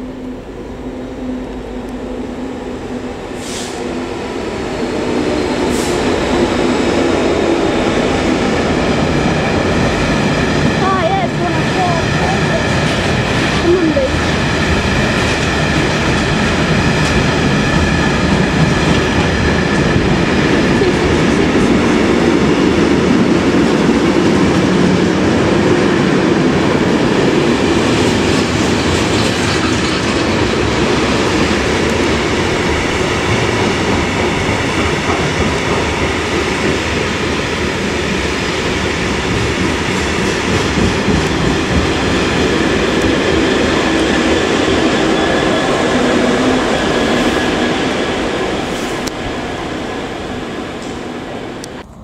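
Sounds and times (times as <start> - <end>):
freight train rumbling: 0.0 - 52.0.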